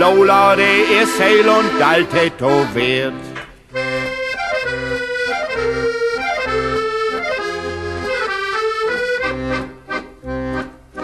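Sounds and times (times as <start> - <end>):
accordion playing chords: 0.0 - 11.0.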